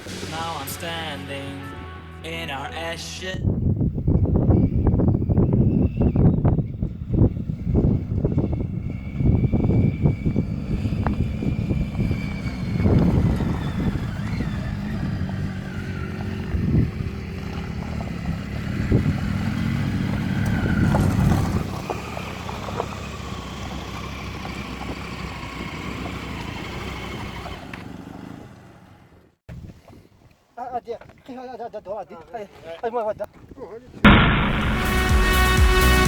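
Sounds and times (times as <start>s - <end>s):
off-road vehicle engine running: 0.0s - 3.0s, 3.6s - 29.4s, 34.1s - 36.0s.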